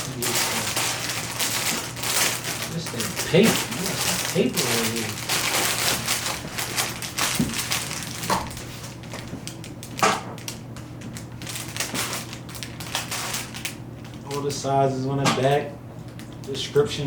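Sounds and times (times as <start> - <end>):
paper packaging rustling: 0.0 - 14.8.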